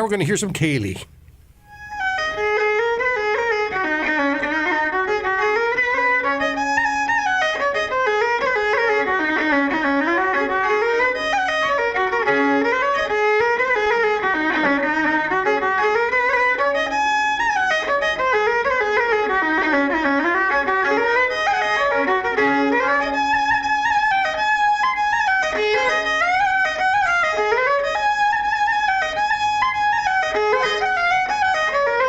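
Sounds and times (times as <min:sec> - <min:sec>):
fiddle dance music: 0:01.9 - 0:32.0.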